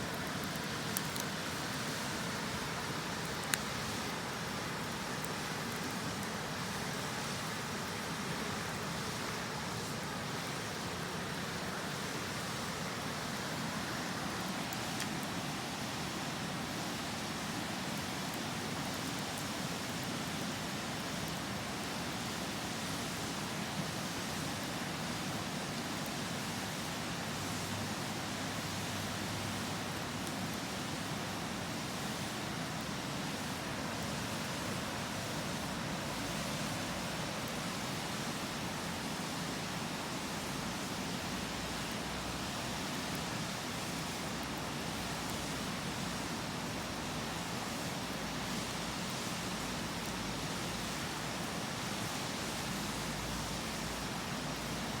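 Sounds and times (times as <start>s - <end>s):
campfire crackling: 0.0s - 55.0s
river flowing: 0.0s - 55.0s.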